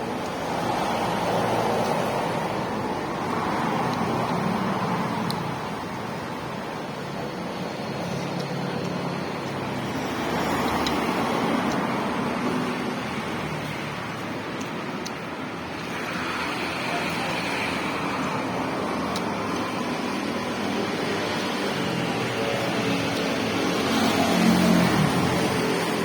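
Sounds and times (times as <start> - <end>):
vehicle road noise: 0.0 - 26.0.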